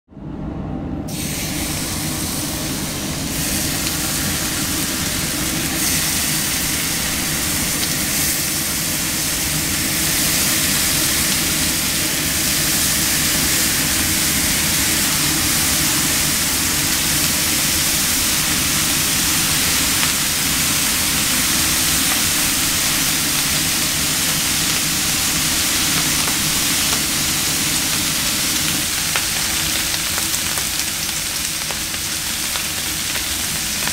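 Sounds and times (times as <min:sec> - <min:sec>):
bacon sizzling on a griddle: 0:01.1 - 0:33.9.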